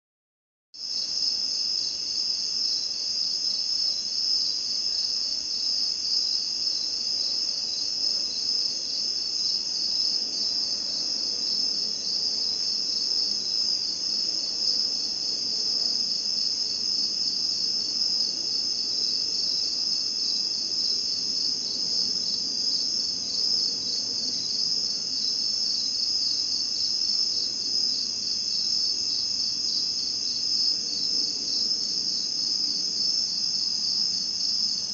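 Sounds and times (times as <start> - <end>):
night insects trilling: 0.8 - 34.9.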